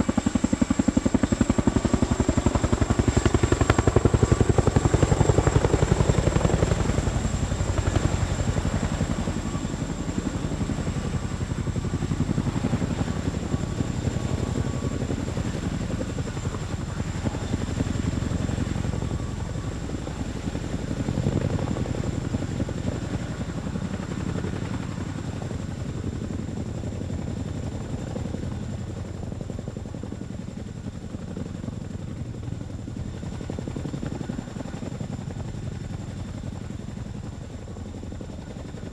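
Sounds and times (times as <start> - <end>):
helicopter rotor chop: 0.0 - 38.9
high helicopter whine: 0.0 - 38.9.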